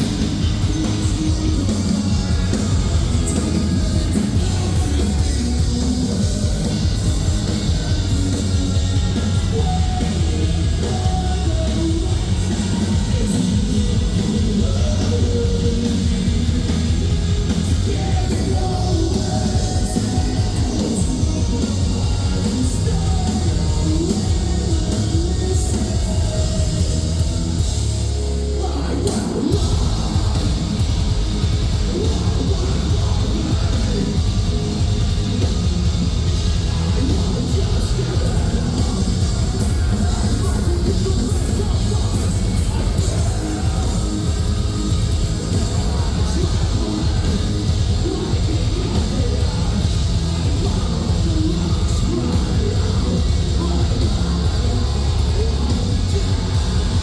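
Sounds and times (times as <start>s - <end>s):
metal band playing loud: 0.0s - 57.0s
shouted and sung vocals: 0.0s - 57.0s.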